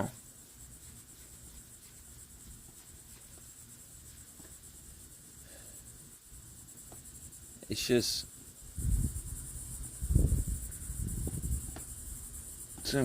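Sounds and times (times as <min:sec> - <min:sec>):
high-pitched insect chirring: 0:00.0 - 0:13.0.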